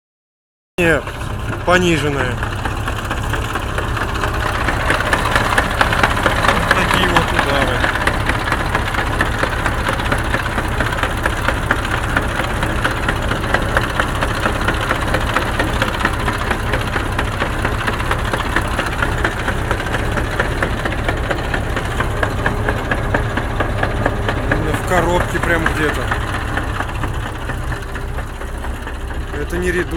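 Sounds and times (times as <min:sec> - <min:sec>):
diesel engine running: 0:00.8 - 0:29.9
truck gearbox knocking: 0:02.4 - 0:29.9.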